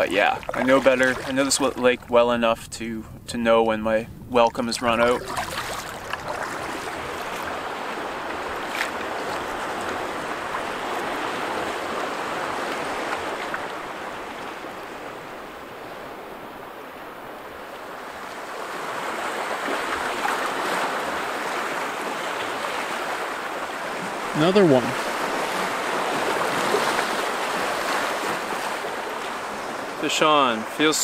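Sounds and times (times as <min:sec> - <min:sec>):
water splashing and lapping: 0:00.0 - 0:02.1, 0:04.4 - 0:30.8.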